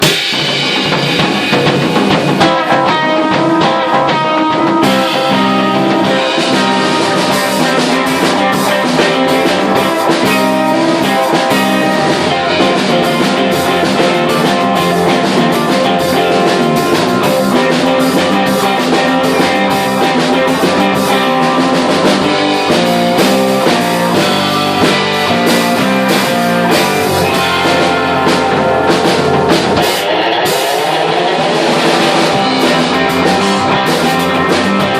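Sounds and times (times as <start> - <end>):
bass guitar: 0.0 - 34.9
drum kit steady beat: 0.0 - 34.9
electric guitar: 0.0 - 34.9.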